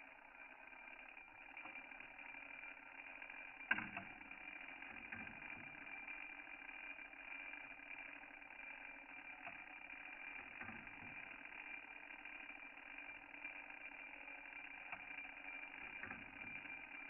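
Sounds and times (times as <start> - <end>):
clock mechanism clicks: 3.1 - 17.0.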